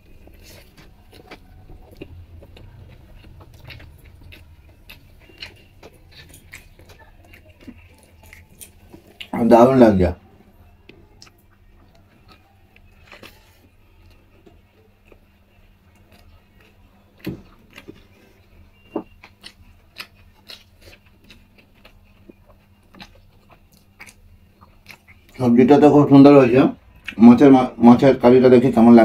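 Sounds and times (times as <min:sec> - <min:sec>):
person chewing food: 0:00.0 - 0:09.5, 0:10.2 - 0:25.4, 0:26.9 - 0:27.2.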